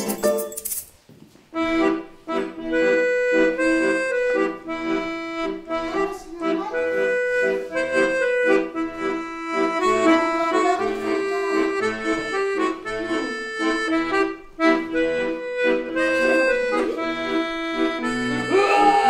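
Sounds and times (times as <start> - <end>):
lively instrumental music: 0.0 - 19.0.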